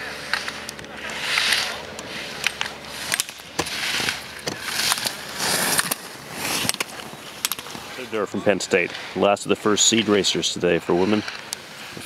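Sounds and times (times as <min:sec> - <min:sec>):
skis scraping on snow: 0:00.0 - 0:12.0.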